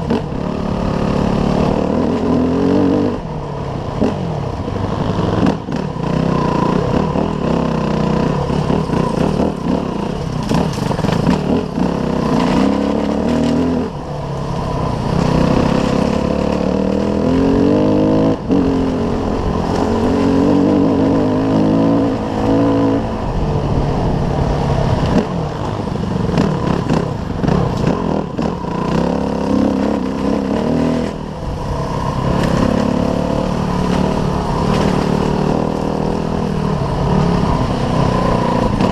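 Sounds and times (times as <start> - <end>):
off-road motorcycle engine revving: 0.0 - 38.9.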